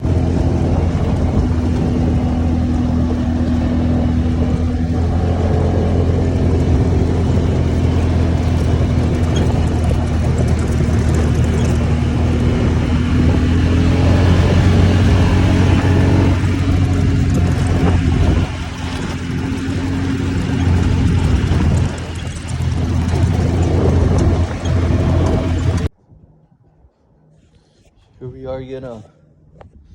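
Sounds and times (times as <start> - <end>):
motor vehicle engine droning: 0.0 - 27.5.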